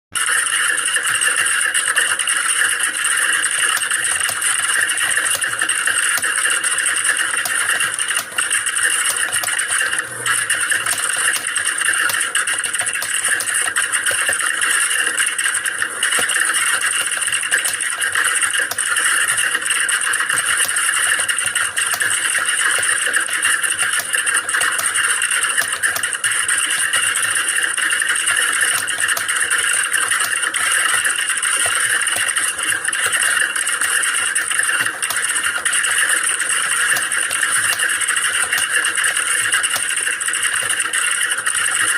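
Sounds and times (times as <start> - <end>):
rapid keyboard typing: 0.2 - 41.9.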